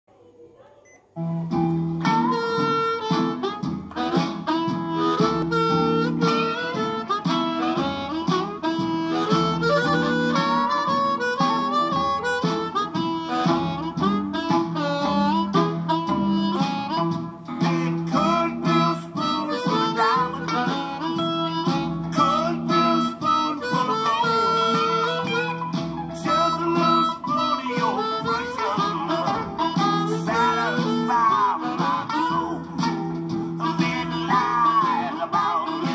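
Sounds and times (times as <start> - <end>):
distorted amplified harmonica: 1.2 - 35.9.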